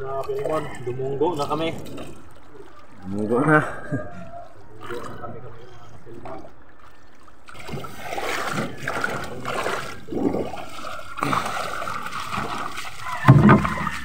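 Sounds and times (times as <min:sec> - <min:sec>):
water splashing around boat: 0:00.0 - 0:14.0.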